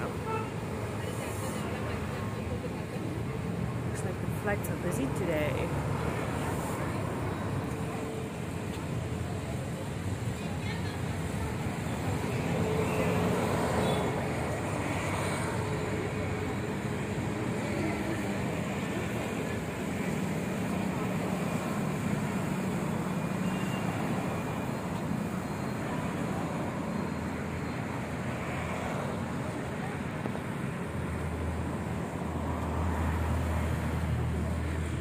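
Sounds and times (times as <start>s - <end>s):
road traffic engine hum: 0.0s - 35.0s.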